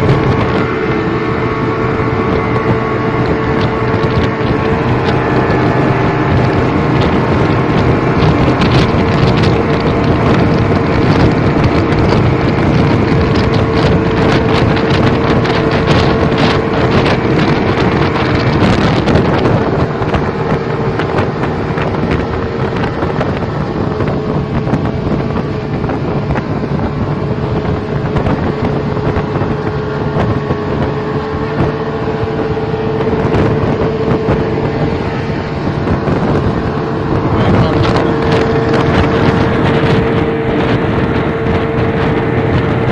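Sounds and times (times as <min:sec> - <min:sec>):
outboard motor running: 0:00.0 - 0:42.9
rushing water from wake: 0:00.0 - 0:42.9
wind blowing on microphone: 0:00.0 - 0:42.9.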